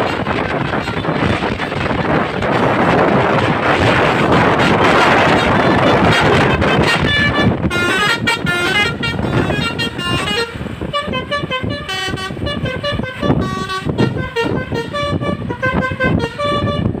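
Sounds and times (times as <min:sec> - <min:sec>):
engine and traffic noise: 0:00.0 - 0:17.0
multi-tone horn melody: 0:00.0 - 0:17.0.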